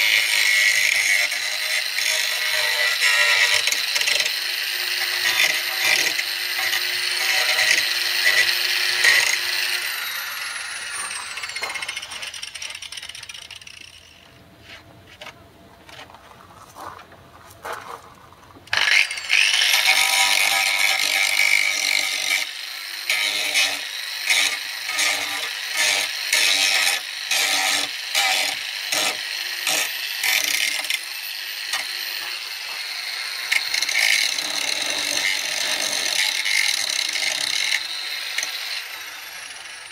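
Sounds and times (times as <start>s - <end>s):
electric grinder grinding metal: 0.0s - 14.3s, 18.7s - 39.9s.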